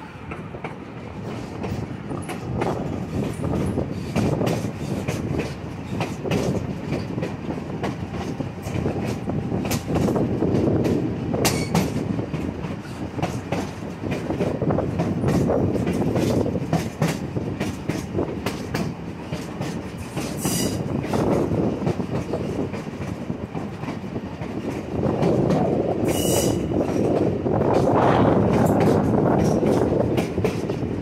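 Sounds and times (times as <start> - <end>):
train wheels rumbling on track: 0.0 - 31.0
wheels clickety-clack: 0.3 - 31.0.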